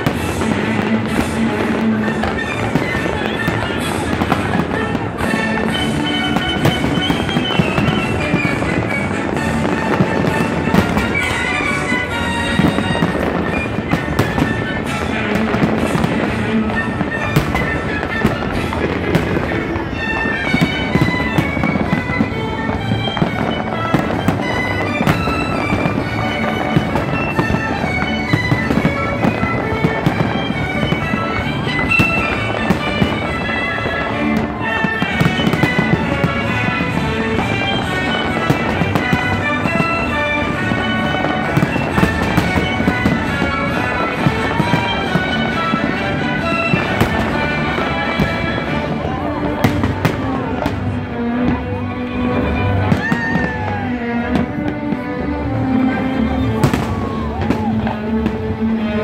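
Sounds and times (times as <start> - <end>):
fireworks bangs: 0.0 - 59.0
music with long held tones: 0.0 - 59.0.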